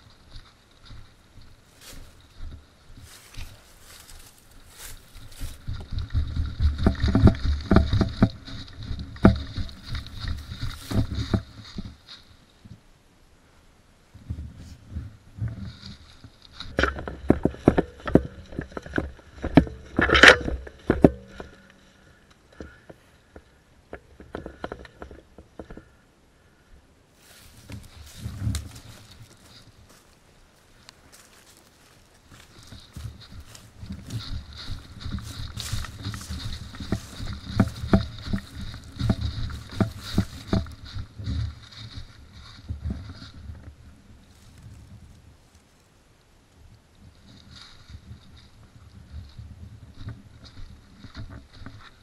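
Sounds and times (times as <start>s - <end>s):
running footsteps crunching leaves: 0.0s - 12.7s, 14.6s - 22.8s, 27.1s - 46.5s, 47.1s - 52.0s.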